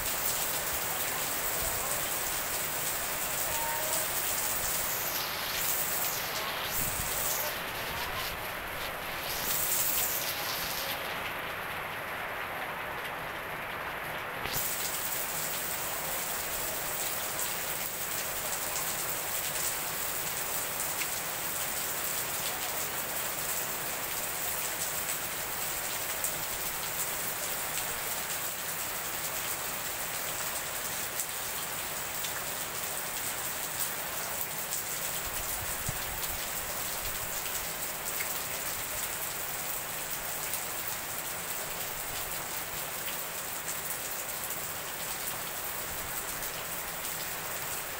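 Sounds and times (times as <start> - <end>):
heavy rain on paving: 0.0 - 47.9.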